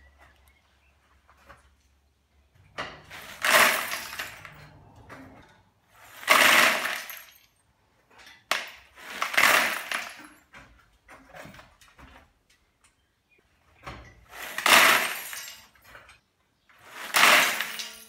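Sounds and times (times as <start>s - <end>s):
metal rattling and clinking: 2.6s - 13.0s, 13.8s - 18.0s.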